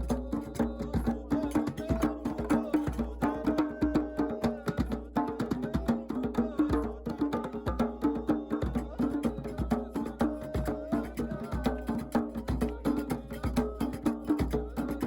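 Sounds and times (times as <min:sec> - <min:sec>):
fast percussion strikes: 0:00.0 - 0:15.0.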